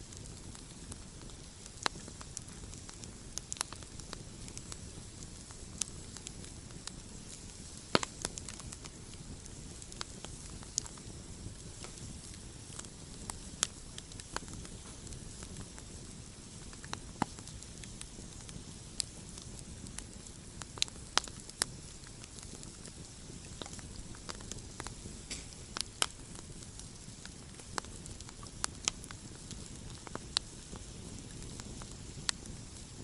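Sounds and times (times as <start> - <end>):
campfire crackling: 0.0 - 33.0
hiss of burning fire: 0.0 - 33.0.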